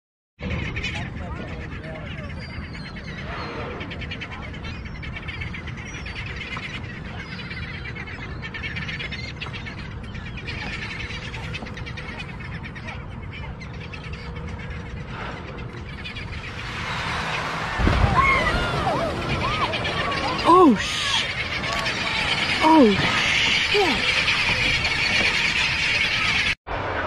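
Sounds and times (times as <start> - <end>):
seabirds calling: 0.4 - 26.6
steady low rumble: 0.4 - 27.0.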